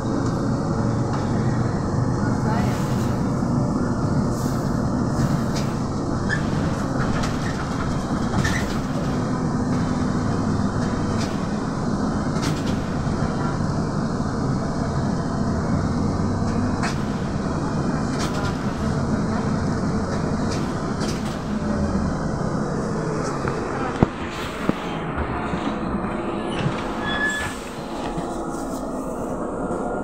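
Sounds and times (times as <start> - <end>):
trolleybus drive and tyre rumble: 0.0 - 30.0.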